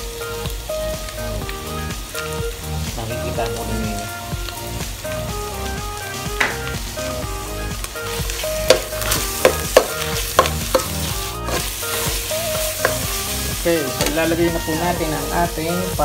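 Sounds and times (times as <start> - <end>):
meat frying in a pot: 0.0 - 16.0.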